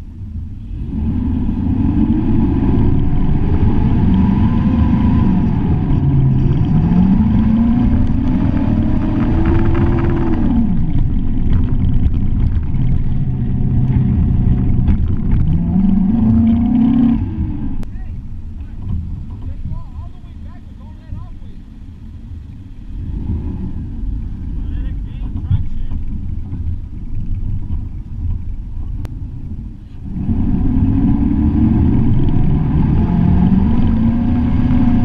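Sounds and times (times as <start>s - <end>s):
drivetrain rumble: 0.0s - 35.0s
truck engine revving: 0.6s - 20.6s, 22.6s - 35.0s.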